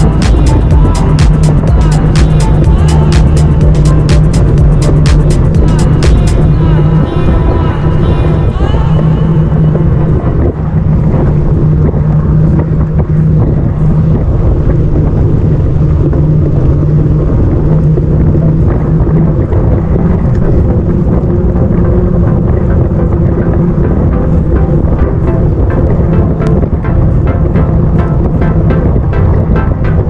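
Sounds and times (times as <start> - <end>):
steady low hum: 0.0 - 30.0
wind buffeting microphone: 0.0 - 30.0.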